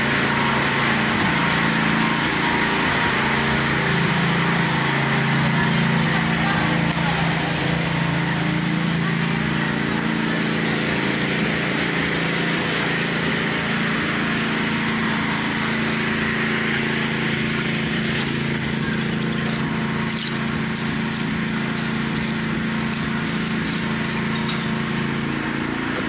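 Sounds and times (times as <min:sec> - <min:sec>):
concrete mixer engine running: 0:00.0 - 0:26.0.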